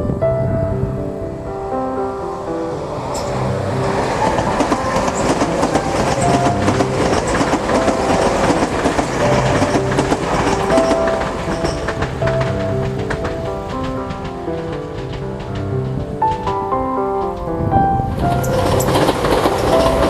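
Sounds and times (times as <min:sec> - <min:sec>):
background music: 0:00.0 - 0:20.0
train wheels clattering: 0:02.3 - 0:20.0.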